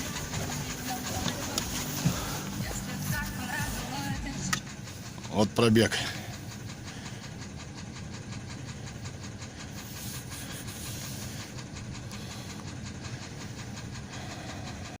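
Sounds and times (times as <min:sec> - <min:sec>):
car engine idling with knock: 0:00.0 - 0:15.0.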